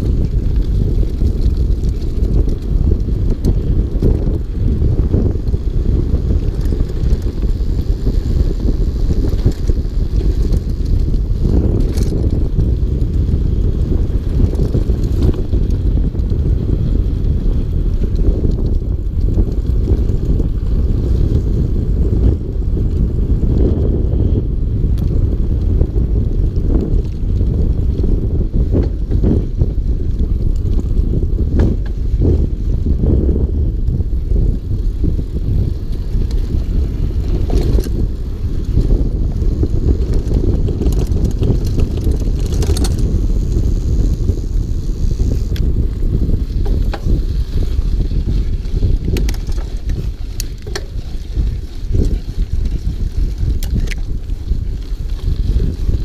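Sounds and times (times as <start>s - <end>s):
bike tyre noise on dirt: 0.0s - 56.0s
wind buffeting microphone: 0.0s - 56.0s.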